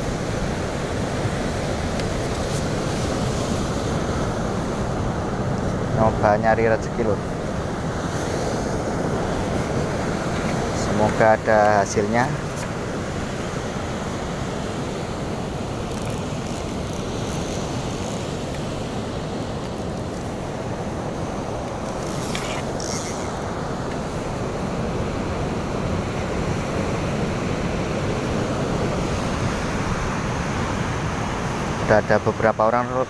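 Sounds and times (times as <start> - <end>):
heavy surf breaking on beach: 0.0 - 33.0.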